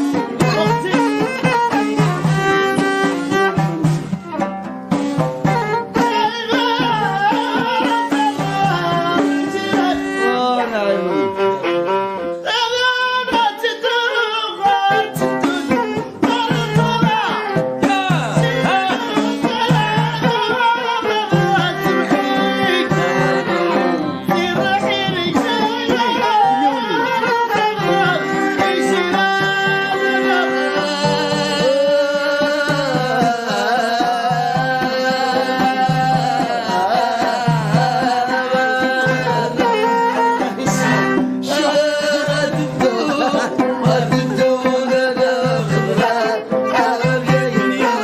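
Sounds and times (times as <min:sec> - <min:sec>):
person singing: 0:00.0 - 0:04.4, 0:05.4 - 0:48.0
steady drum beat: 0:00.0 - 0:10.5, 0:14.9 - 0:48.0
folk melody: 0:00.0 - 0:48.0.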